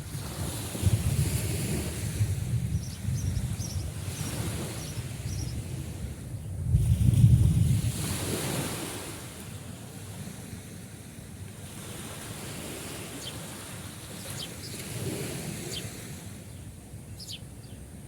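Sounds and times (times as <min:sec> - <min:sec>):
sea waves washing ashore: 0:00.0 - 0:18.0
wind: 0:00.0 - 0:18.0.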